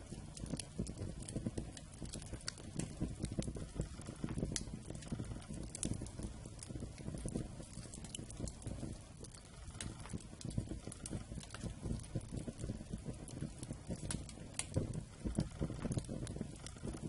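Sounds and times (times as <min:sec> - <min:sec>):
campfire crackling and popping: 0:00.0 - 0:17.0
low rumble of burning: 0:00.0 - 0:17.0.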